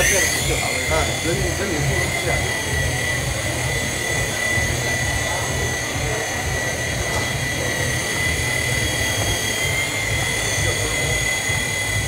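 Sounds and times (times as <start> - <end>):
toy helicopter motor whine: 0.0 - 12.0.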